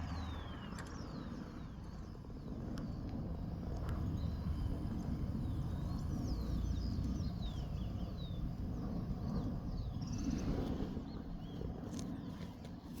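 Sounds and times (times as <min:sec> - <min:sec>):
steady low rumble: 0:00.0 - 0:12.2
small birds chirping: 0:00.0 - 0:13.0.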